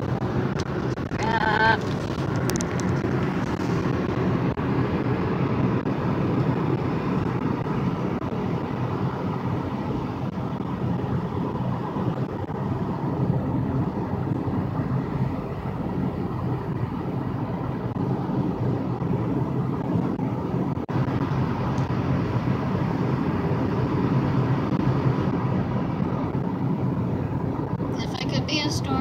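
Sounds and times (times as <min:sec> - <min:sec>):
car engine rumble: 0:00.0 - 0:29.0
road noise: 0:00.0 - 0:29.0.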